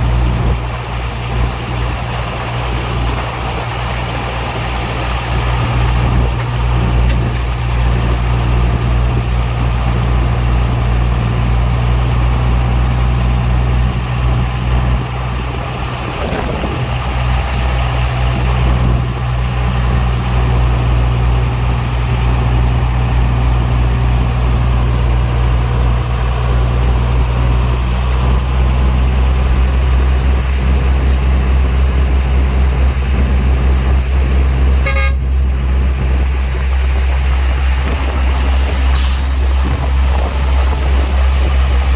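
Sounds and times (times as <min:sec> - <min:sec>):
diesel engine humming: 0:00.0 - 0:41.9.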